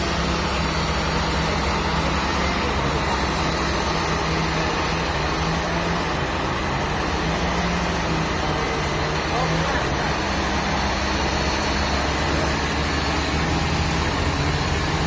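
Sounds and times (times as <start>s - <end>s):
machine running steadily: 0.0s - 15.0s.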